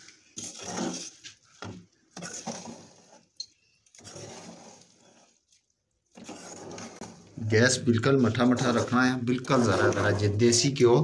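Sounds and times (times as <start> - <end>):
spoon scraping steel pot: 0.2 - 5.5, 6.1 - 10.8.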